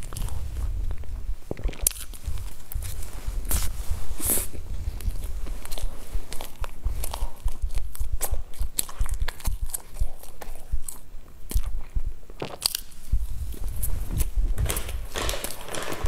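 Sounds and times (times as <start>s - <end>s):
person chewing cake: 0.0s - 16.0s.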